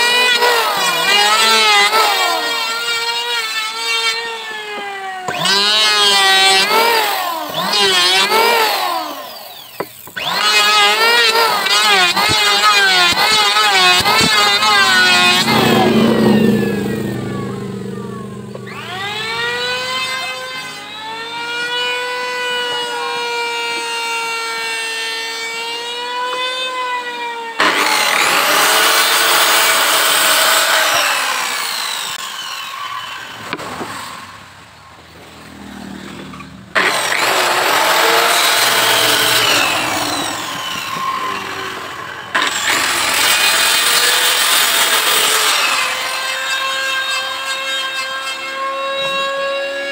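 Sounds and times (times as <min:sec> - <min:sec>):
hand planer motor winding down: 0:00.0 - 0:24.6, 0:27.6 - 0:34.2, 0:35.8 - 0:49.9
circular saw cutting wood: 0:00.0 - 0:49.9.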